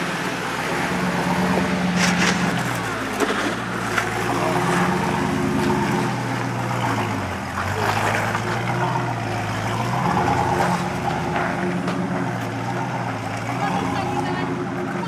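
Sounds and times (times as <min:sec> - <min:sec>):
truck engine running under load: 0:00.0 - 0:15.0.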